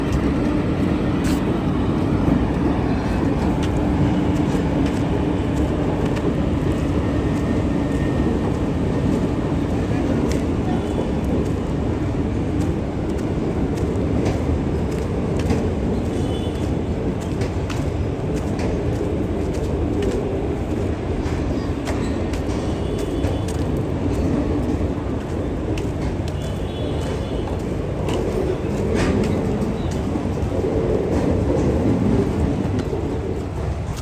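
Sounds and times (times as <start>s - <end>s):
sharp clicks of train wheels: 0.0s - 34.0s
train rumbling on track: 0.0s - 34.0s.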